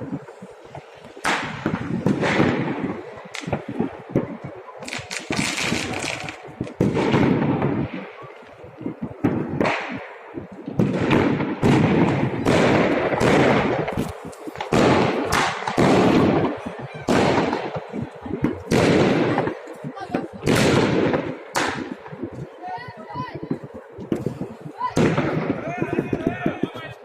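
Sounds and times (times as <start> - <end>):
fireworks bursting with crackle: 0.0 - 27.0.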